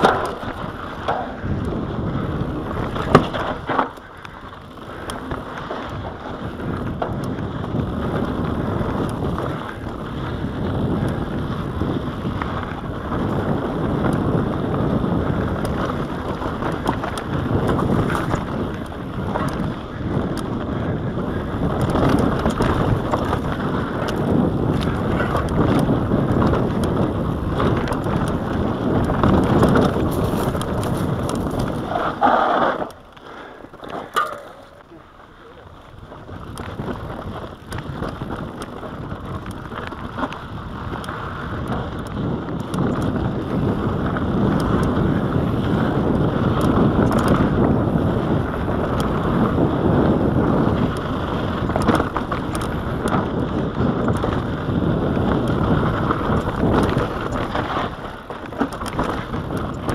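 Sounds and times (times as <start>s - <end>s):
bike knocking and rattling: 0.0s - 59.9s
bike tyres rushing on dirt: 0.0s - 59.9s
wind buffeting microphone: 0.0s - 59.9s.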